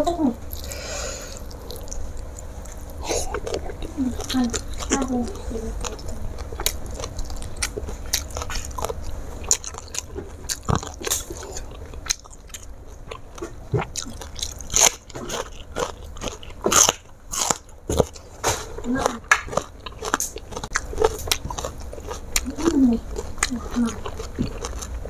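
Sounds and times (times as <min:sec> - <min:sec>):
crunching raw vegetables: 0:00.2 - 0:25.0
chewing: 0:00.4 - 0:25.0.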